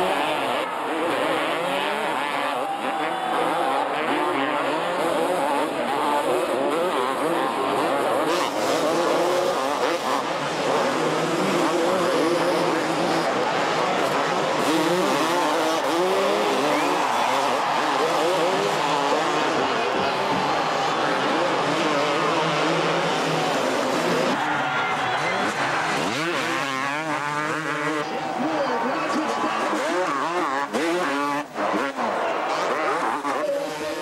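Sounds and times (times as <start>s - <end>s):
motocross bike engines revving: 0.0s - 34.0s.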